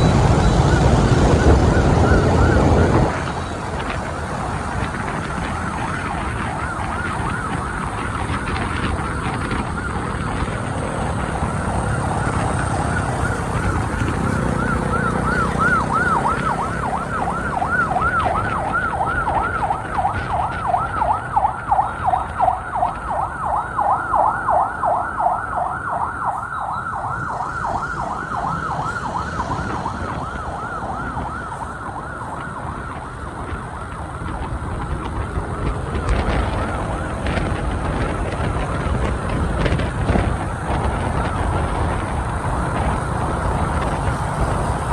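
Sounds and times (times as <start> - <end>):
motorbike and street traffic: 0.0 - 44.9
siren yelping: 0.0 - 44.9.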